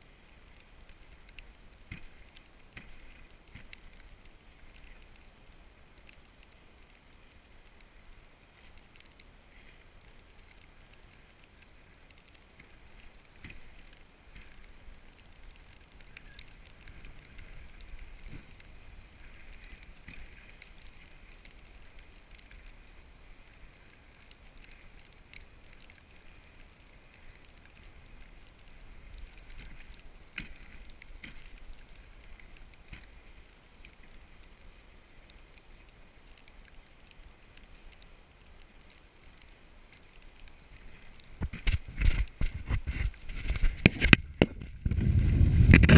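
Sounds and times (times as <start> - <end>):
sled runners gliding over snow: 0.0 - 45.9
small crackles and knocks: 0.0 - 45.9.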